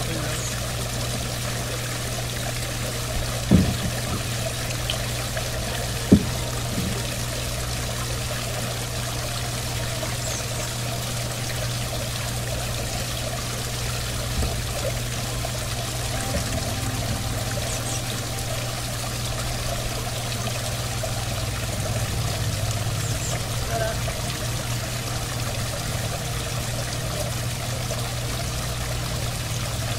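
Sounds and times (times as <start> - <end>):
waterfall splashing into pool: 0.0 - 29.9.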